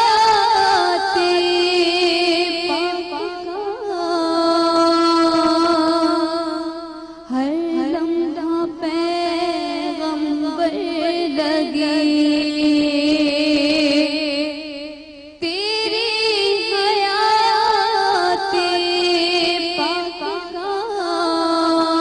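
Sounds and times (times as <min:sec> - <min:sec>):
woman singing devotional song: 0:00.0 - 0:22.0.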